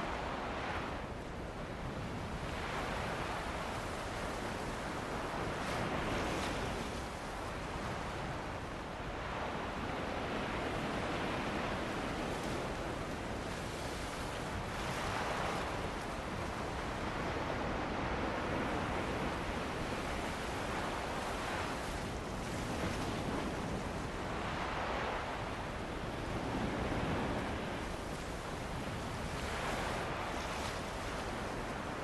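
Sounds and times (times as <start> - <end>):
ocean waves breaking on beach: 0.0 - 32.0
wind: 0.0 - 32.0.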